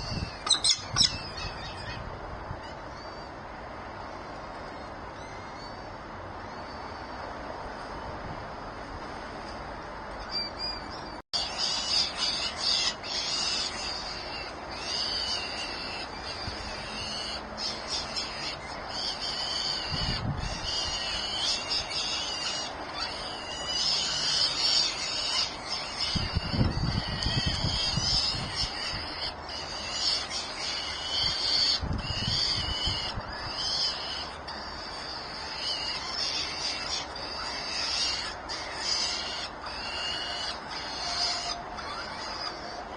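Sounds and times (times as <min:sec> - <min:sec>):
nestling birds begging calls: 0:00.0 - 0:07.5, 0:10.2 - 0:42.9.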